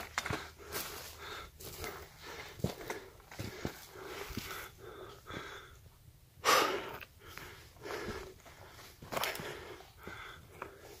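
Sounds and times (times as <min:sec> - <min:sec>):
person panting hard: 0:00.0 - 0:11.0.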